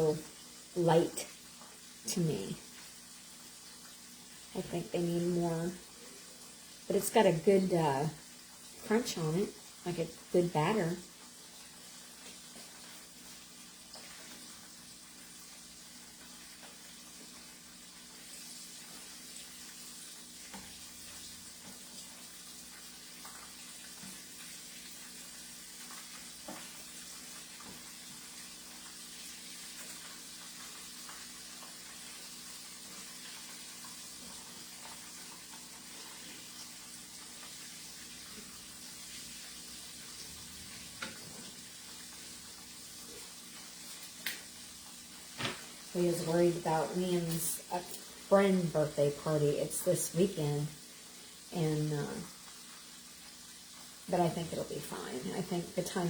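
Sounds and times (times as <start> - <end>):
chicken deep-frying in oil: 0.0 - 56.0.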